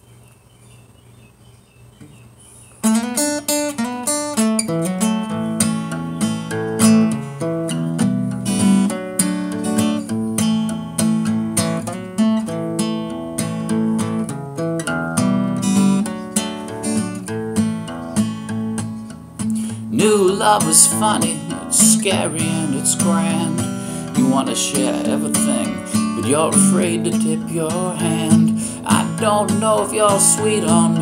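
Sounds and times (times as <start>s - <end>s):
acoustic guitar playing: 2.1s - 31.0s.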